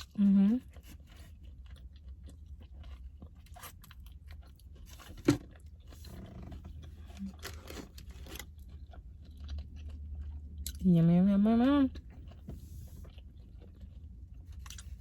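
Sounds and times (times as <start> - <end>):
person chewing and crunching food: 0.0 - 15.0.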